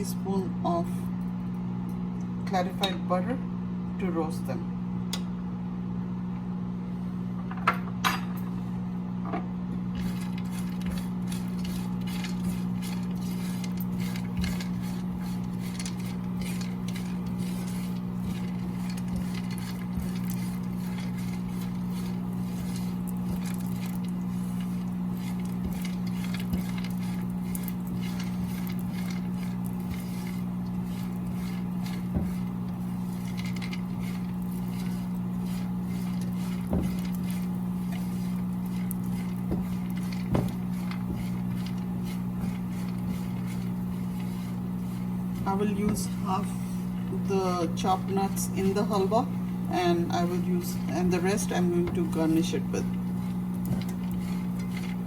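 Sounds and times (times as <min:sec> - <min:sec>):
crackling sizzle: 0:09.8 - 0:55.0.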